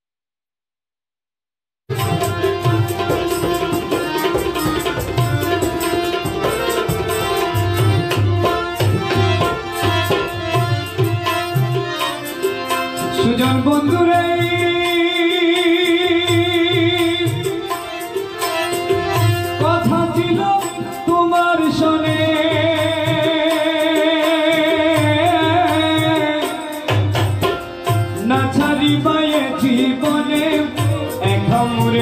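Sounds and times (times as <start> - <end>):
harmonium: 1.9 - 32.0
tabla rhythm: 1.9 - 32.0.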